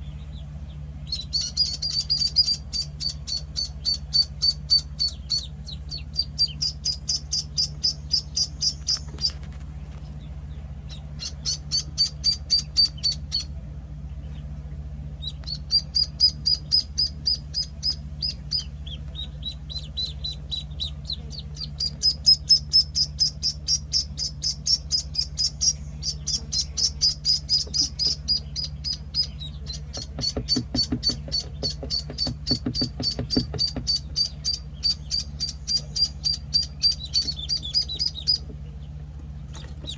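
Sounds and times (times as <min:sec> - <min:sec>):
ducklings peeping: 0:00.0 - 0:39.9
low hum: 0:00.0 - 0:39.9.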